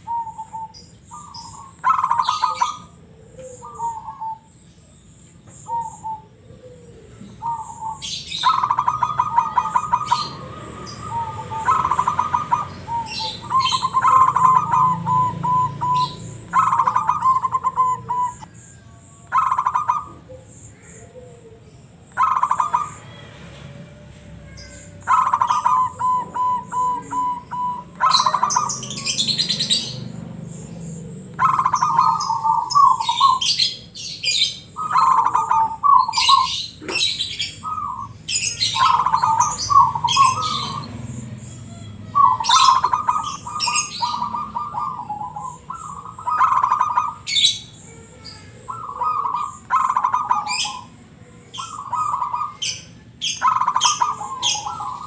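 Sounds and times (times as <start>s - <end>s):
dove cooing song: 0.0s - 55.0s
small birds chirping: 0.0s - 55.0s.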